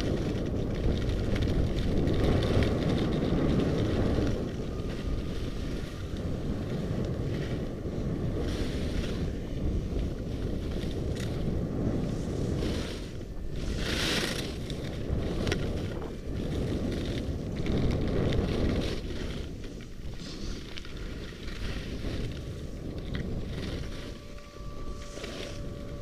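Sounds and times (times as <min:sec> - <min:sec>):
skis scraping over snow: 0:00.0 - 0:26.0
wind buffeting microphone: 0:00.0 - 0:26.0.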